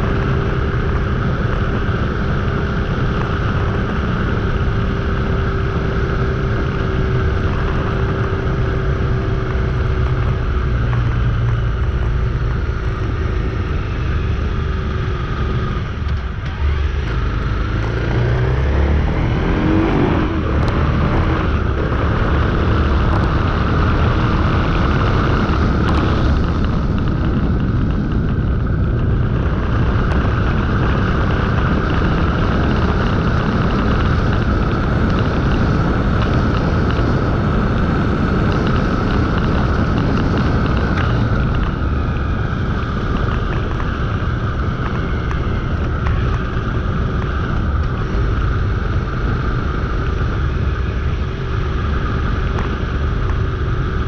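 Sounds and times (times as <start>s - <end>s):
motorcycle engine running: 0.0s - 54.0s
wind and road rumble: 0.0s - 54.0s.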